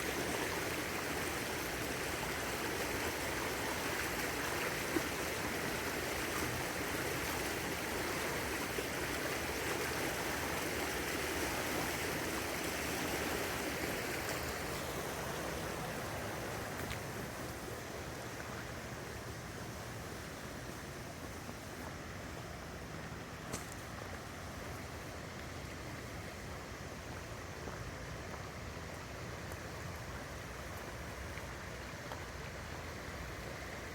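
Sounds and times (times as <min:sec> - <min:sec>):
flowing river water: 0:00.0 - 0:33.9.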